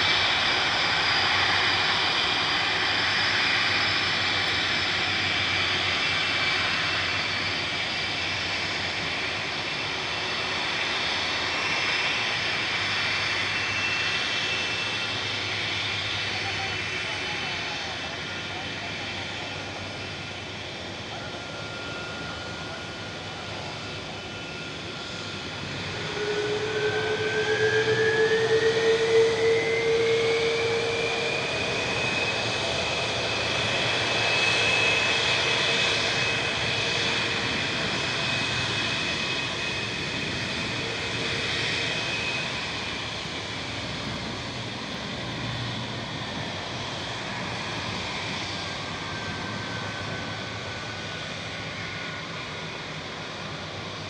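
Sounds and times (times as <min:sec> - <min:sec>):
jet turbine whine: 0:00.0 - 0:54.0
steady jet noise: 0:00.0 - 0:54.0.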